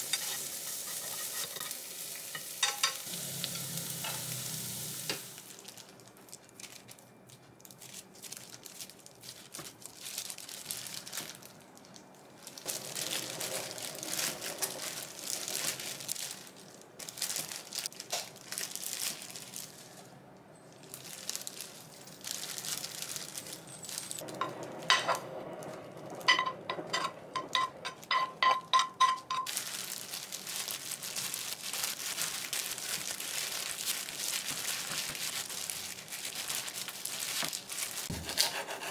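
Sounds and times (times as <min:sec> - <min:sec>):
plastic gloves crinkling: 0:00.0 - 0:38.2.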